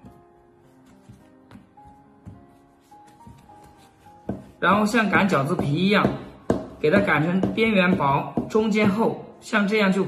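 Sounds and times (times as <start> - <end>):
quiet background music: 0.0 - 10.0.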